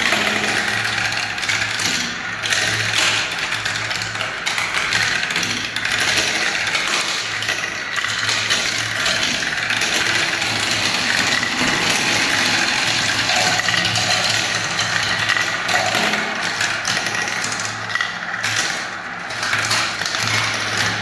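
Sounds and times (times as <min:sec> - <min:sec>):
marbles rattling down plastic tracks: 0:00.0 - 0:21.0.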